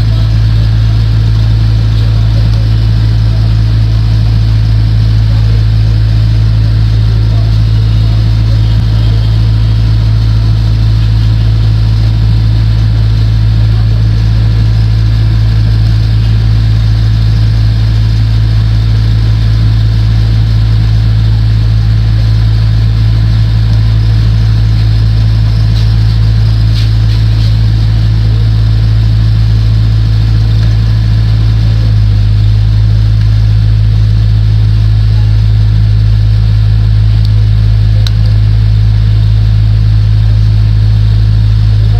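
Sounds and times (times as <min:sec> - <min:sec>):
loud low hum: 0:00.0 - 0:41.9.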